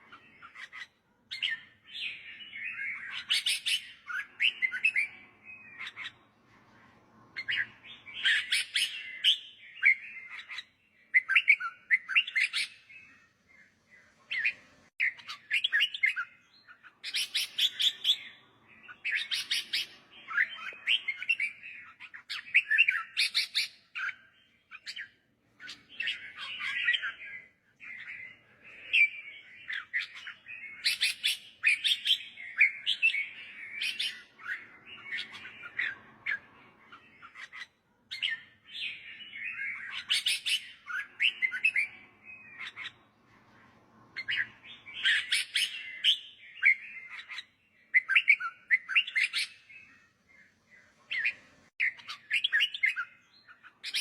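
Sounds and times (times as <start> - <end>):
bird chirpy song: 0.0 - 54.0.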